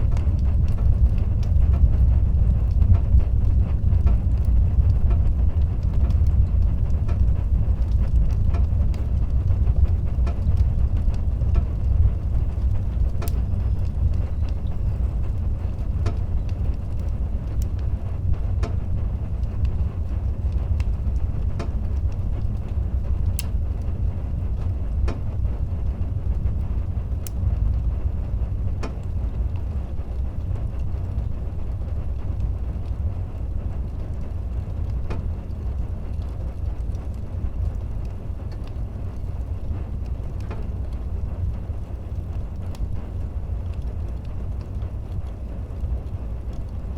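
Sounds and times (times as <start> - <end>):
fire rumbling in fireplace: 0.0 - 46.9
wood crackles popping: 0.0 - 46.9.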